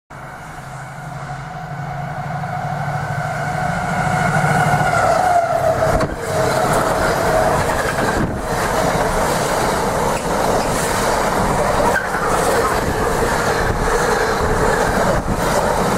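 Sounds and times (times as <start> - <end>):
train running past: 0.1 - 15.9.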